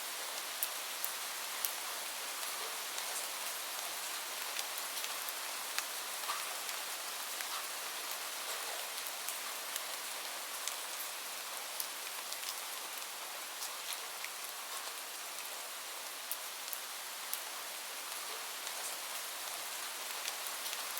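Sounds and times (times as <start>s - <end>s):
gentle rain falling: 0.0s - 20.9s.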